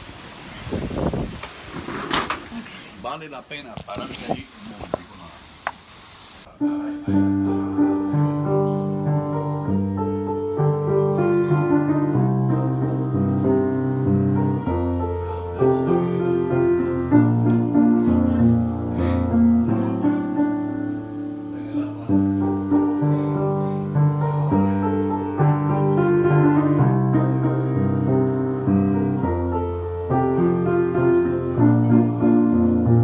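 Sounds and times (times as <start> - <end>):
piano chords: 6.5 - 33.0.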